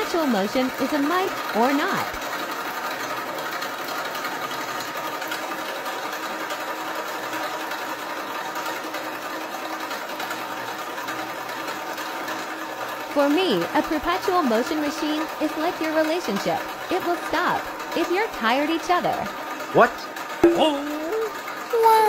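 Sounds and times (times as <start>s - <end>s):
flywheel machine clattering: 0.0s - 22.0s.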